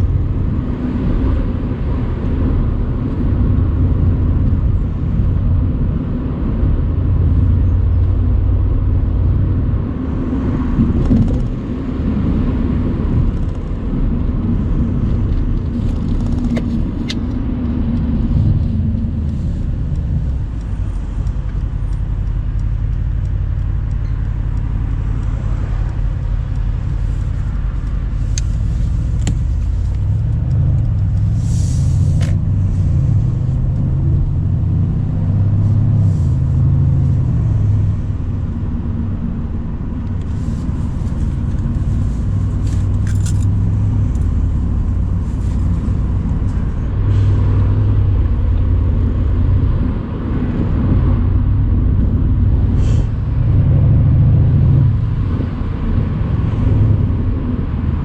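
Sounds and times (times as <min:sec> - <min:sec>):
car engine running: 0:00.0 - 0:58.0
wind noise: 0:00.0 - 0:58.0.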